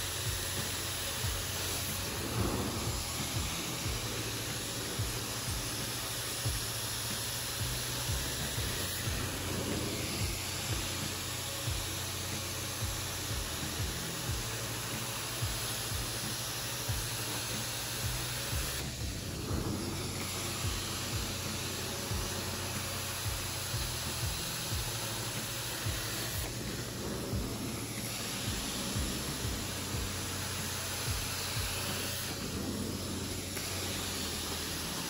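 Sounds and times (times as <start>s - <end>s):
carpet cleaner vacuum suction hiss: 0.0s - 35.0s.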